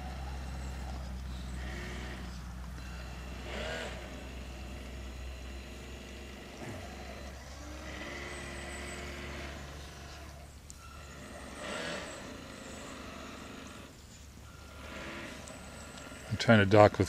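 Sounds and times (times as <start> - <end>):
small electric motor whining: 0.0 - 17.0
steady low hum: 0.0 - 17.0.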